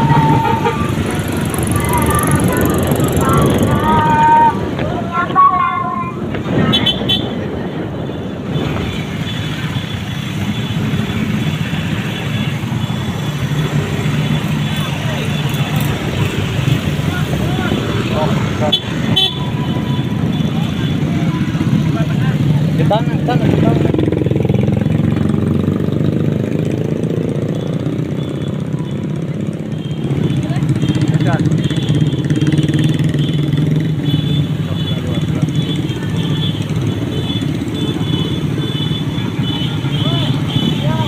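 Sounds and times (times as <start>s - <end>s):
car and motorcycle engines in traffic: 0.0s - 41.0s
voices: 0.0s - 41.0s.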